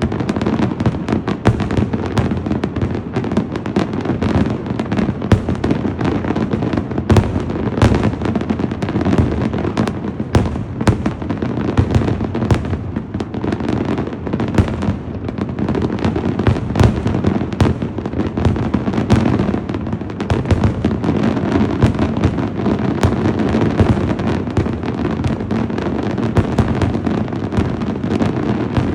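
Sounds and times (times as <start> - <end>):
fireworks booming and crackling: 0.0 - 28.9.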